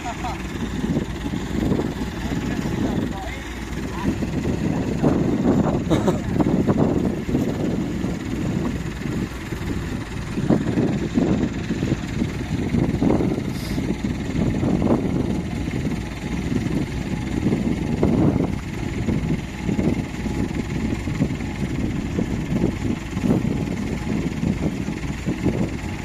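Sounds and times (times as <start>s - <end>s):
tractor engine running: 0.0s - 26.0s
wind buffeting microphone: 0.0s - 26.0s.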